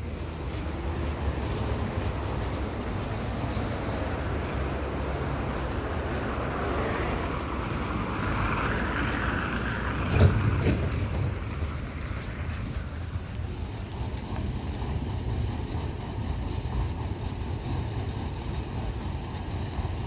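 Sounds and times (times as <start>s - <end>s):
vehicle passing: 0.0s - 19.0s
traffic on wet road: 0.0s - 20.0s.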